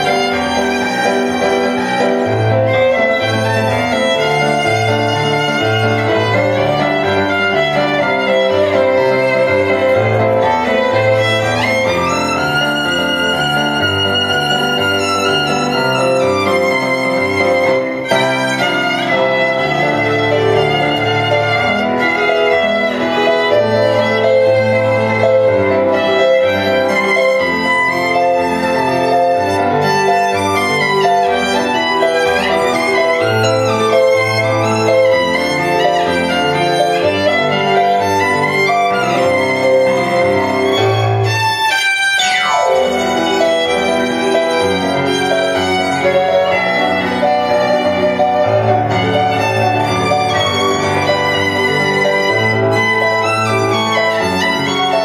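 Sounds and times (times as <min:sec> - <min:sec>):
violin playing fast passage: 0:00.0 - 0:55.0.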